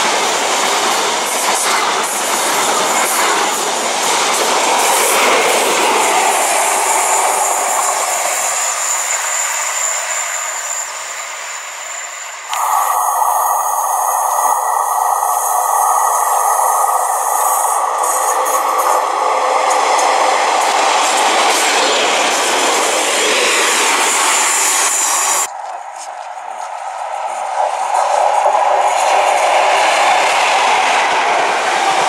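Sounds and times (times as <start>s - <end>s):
train rushing past: 0.0s - 32.0s
wheels rushing on rail: 0.0s - 32.0s.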